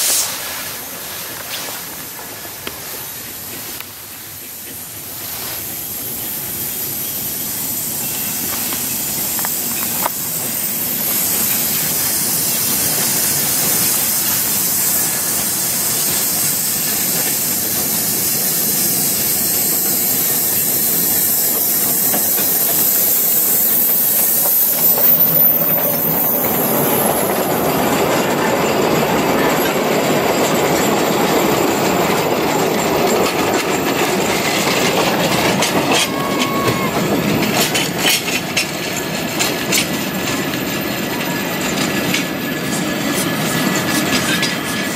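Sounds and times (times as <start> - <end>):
steam locomotive hissing: 0.0 - 44.9
wagon wheels rumbling on rails: 8.0 - 44.9.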